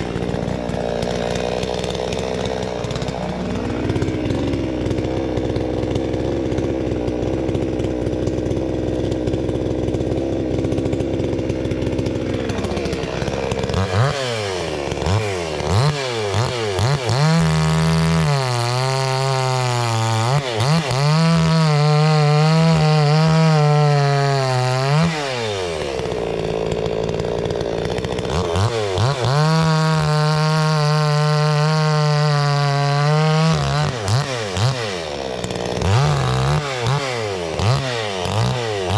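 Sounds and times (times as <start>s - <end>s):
chainsaw running and revving: 0.0s - 38.9s.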